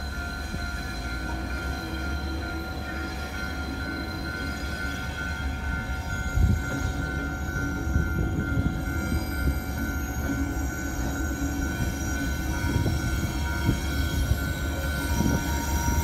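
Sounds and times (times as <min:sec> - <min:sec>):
freight train rumbling: 0:00.0 - 0:16.0
steady high tone: 0:00.0 - 0:16.0.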